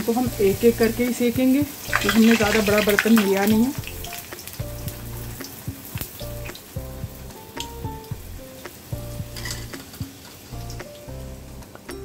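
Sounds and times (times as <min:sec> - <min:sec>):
oil sizzling with pops: 0:00.0 - 0:12.0
soft background music: 0:00.0 - 0:12.0.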